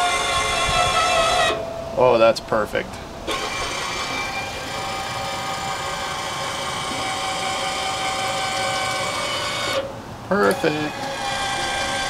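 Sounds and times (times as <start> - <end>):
electric actuator motor whine: 0.0 - 2.1, 3.1 - 12.0.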